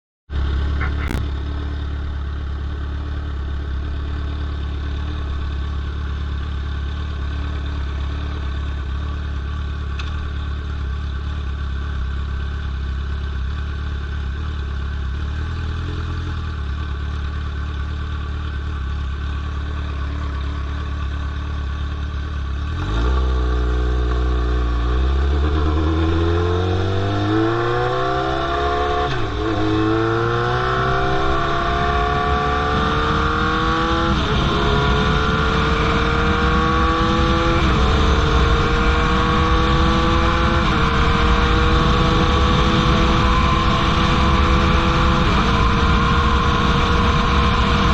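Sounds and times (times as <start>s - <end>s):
motorcycle engine idling and revving: 0.3s - 47.9s.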